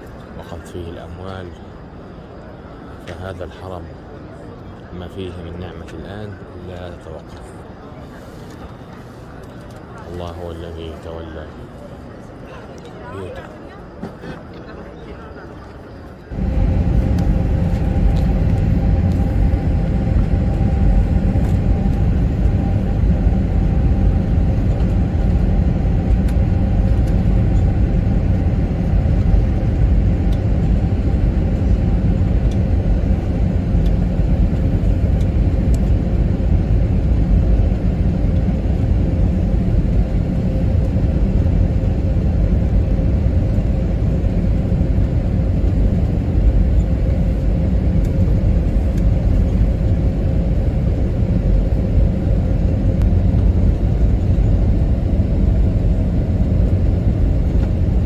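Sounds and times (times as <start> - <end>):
faint steady hum: 0.0 - 58.0
moving vehicle rumble: 10.8 - 58.0.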